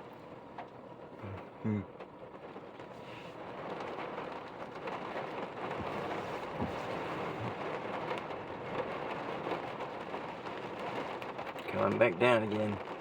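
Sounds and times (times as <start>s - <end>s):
rain pouring down: 0.0s - 13.0s.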